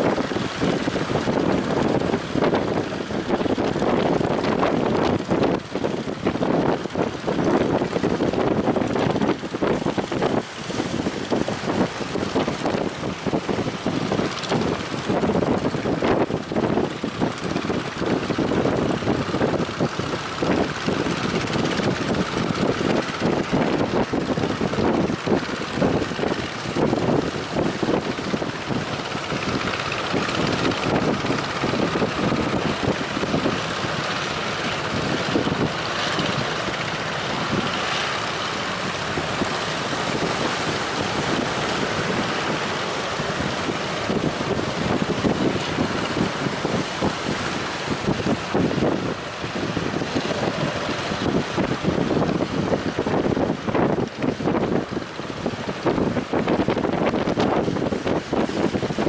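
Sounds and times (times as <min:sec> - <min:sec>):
strong wind buffeting microphone: 0:00.0 - 0:59.0.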